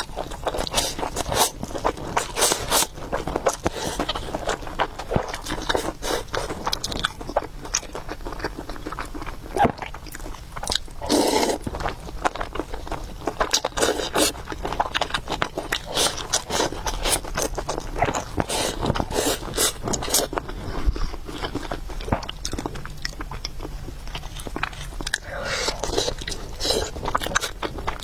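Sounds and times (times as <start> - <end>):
person chewing and slurping: 0.1 - 28.0.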